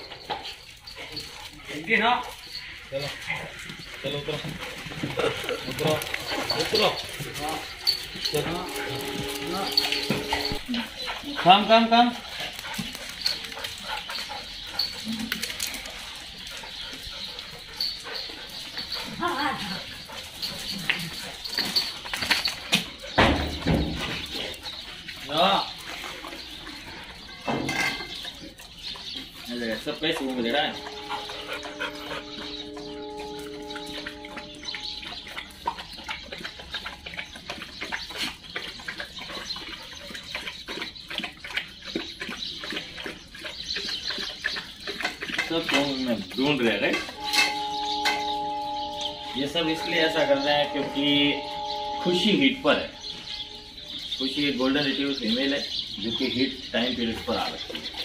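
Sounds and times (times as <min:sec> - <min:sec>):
dog paws clicking on stone: 0:00.0 - 0:47.3
low dog vocal sound: 0:00.0 - 0:58.0.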